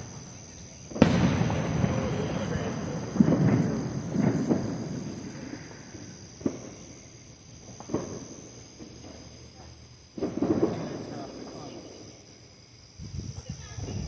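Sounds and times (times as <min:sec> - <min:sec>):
distant fireworks bursting: 0:00.0 - 0:12.6
insects chirring: 0:00.0 - 0:14.0.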